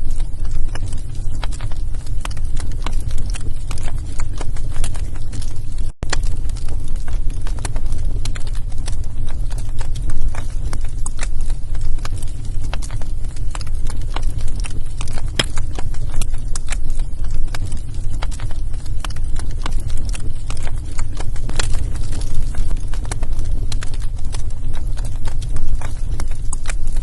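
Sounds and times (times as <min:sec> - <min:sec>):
fire low rumble: 0:00.0 - 0:27.0
logs crackling and popping: 0:00.0 - 0:27.0.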